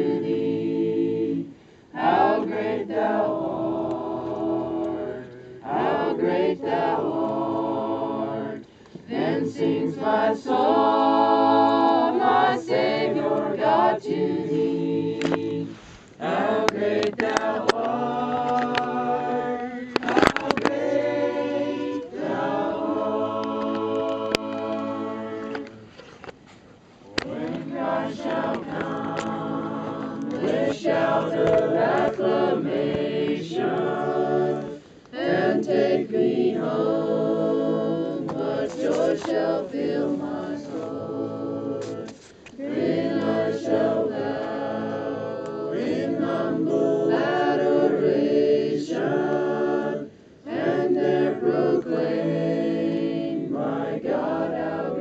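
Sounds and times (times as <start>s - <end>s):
group singing a cappella: 0.0s - 26.1s, 27.1s - 55.0s.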